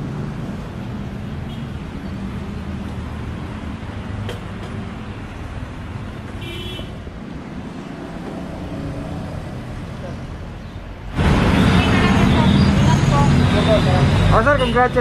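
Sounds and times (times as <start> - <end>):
road traffic engines: 0.0 - 15.0.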